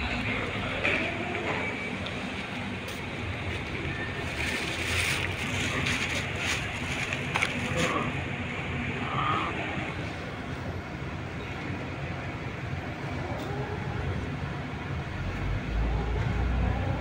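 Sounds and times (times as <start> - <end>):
street noise rumble: 0.0 - 17.0.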